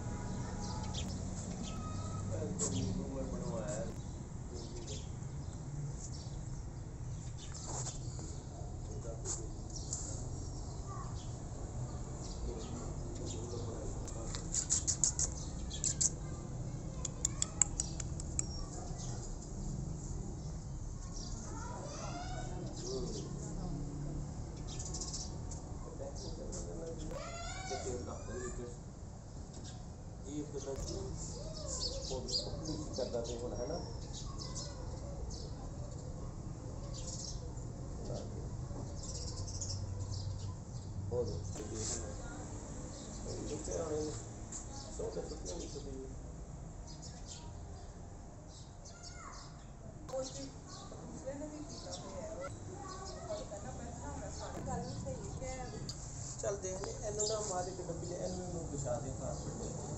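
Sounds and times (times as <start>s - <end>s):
small birds chirping: 0.1s - 59.9s.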